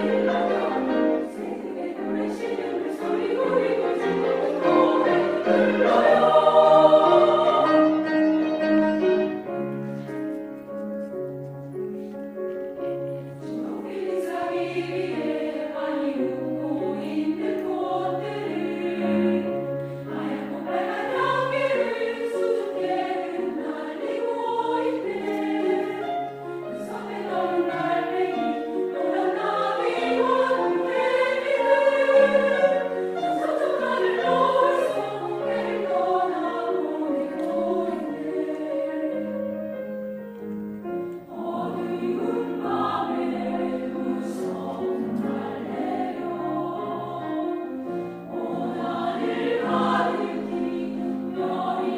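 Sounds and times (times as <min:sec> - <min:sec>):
women's choir singing: 0:00.0 - 0:09.8, 0:12.8 - 0:51.9.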